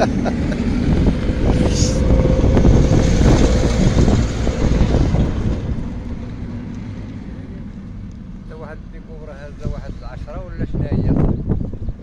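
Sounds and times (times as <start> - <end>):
electric locomotive rumbling on tracks: 0.0 - 12.0.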